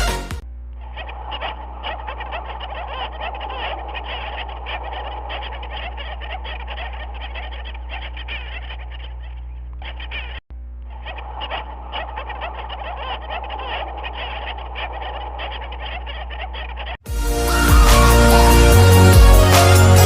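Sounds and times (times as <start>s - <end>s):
low hum: 0.4s - 16.9s.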